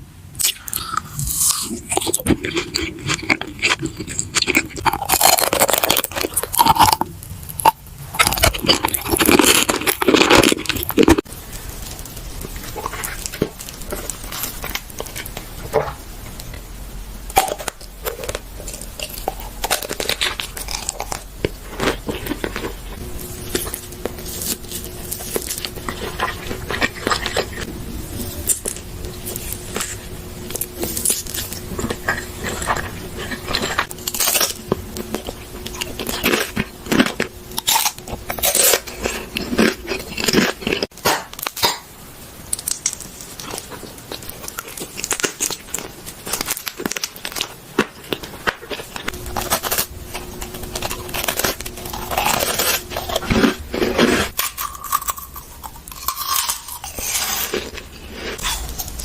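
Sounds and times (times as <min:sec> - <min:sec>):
crunching and chewing food: 0:00.4 - 0:41.9, 0:42.5 - 0:59.0.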